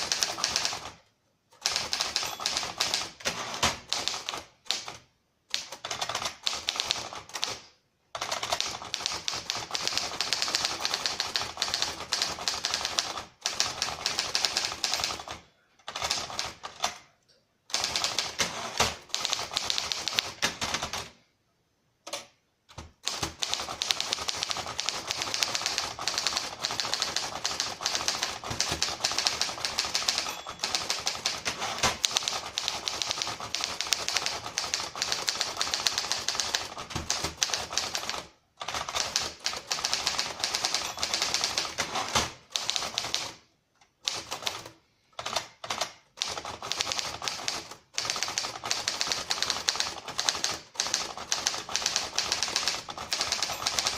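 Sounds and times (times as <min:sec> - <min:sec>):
manual typewriter typing: 0:00.0 - 0:17.1, 0:17.7 - 0:21.2, 0:22.1 - 0:53.9.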